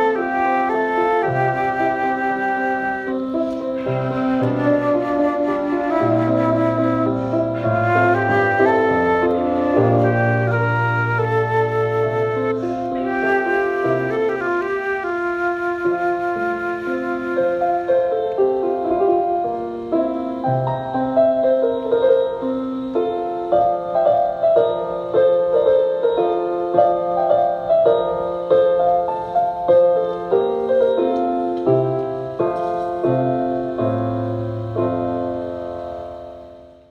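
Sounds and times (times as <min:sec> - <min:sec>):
piano playing melody: 0:00.0 - 0:36.9.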